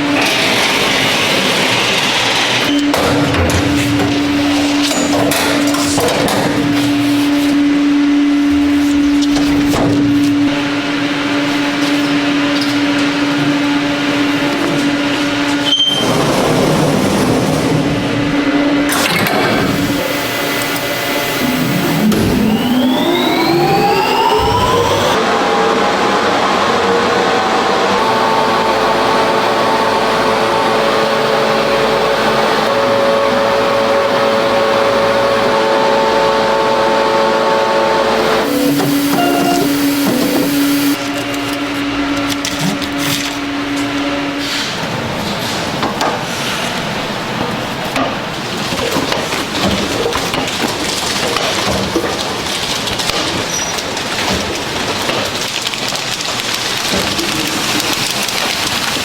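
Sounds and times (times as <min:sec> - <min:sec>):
busy mechanical noise: 0:00.0 - 0:59.0
production line machinery humming: 0:00.0 - 0:59.0.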